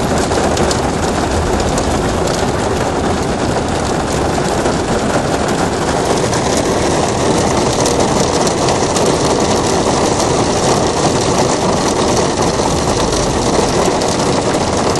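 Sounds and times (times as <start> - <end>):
hailstones rattling: 0.0 - 14.9.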